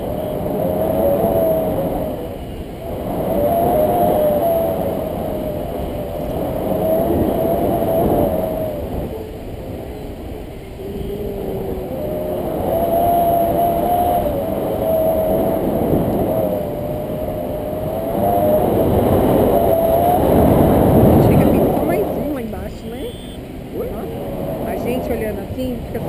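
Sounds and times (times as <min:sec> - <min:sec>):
thin wavering whistle: 0:00.0 - 0:25.4
wind rushing over microphone: 0:00.0 - 0:26.0.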